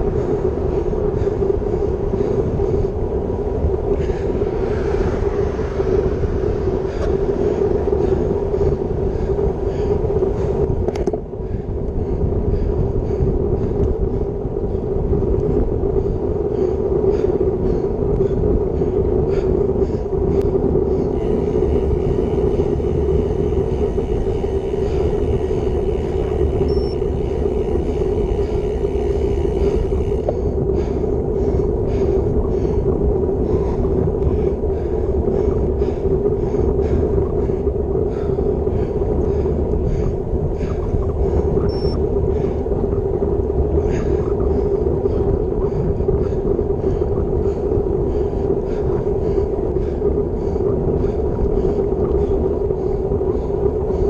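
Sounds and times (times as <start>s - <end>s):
road noise: 0.0s - 54.0s
wind rumble: 0.0s - 54.0s.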